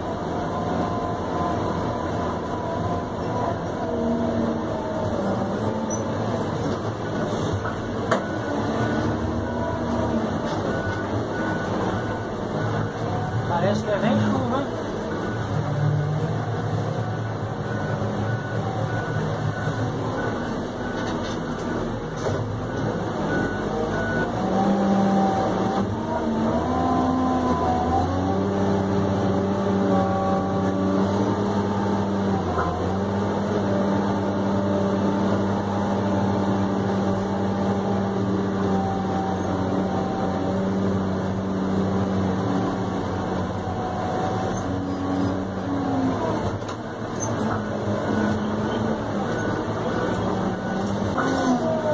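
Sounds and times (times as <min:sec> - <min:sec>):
grader engine running: 0:00.0 - 0:51.9.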